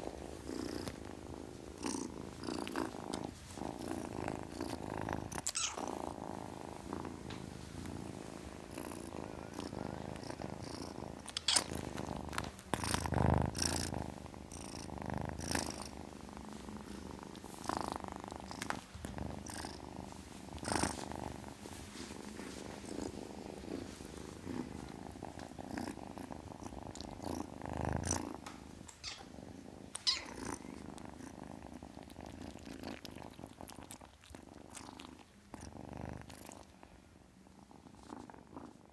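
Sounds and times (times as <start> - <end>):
kitten purring: 0.0 - 38.9.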